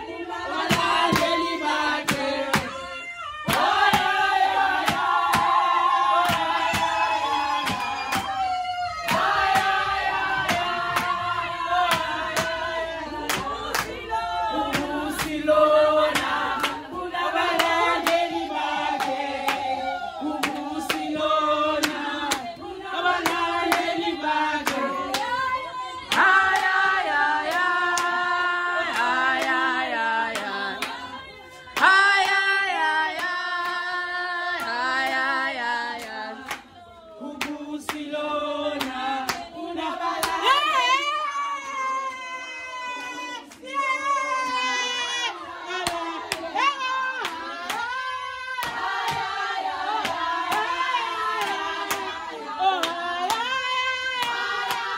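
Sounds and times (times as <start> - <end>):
hands clapping in rhythm: 0.0 - 54.9
women singing together: 0.0 - 54.9.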